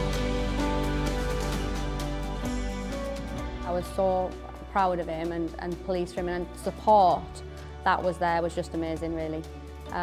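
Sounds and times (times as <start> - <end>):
slow instrumental music: 0.0 - 10.0.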